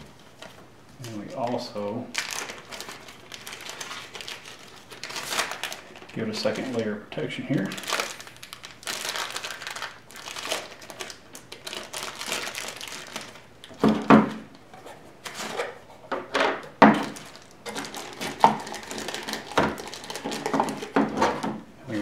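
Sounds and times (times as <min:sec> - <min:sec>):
plastic bag crinkling: 0:00.0 - 0:14.6, 0:16.8 - 0:21.5.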